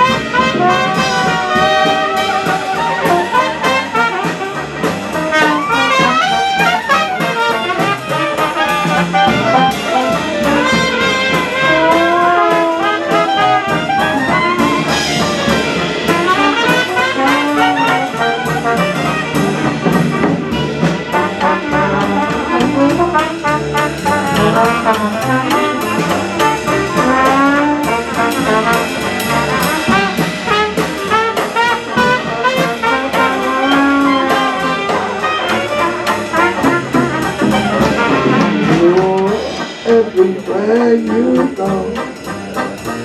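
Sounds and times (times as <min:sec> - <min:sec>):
clarinet: 0:00.0 - 0:43.0
double bass: 0:00.0 - 0:43.0
drums with a steady beat: 0:00.0 - 0:43.0
trombone: 0:00.0 - 0:43.0
trumpet: 0:00.0 - 0:43.0.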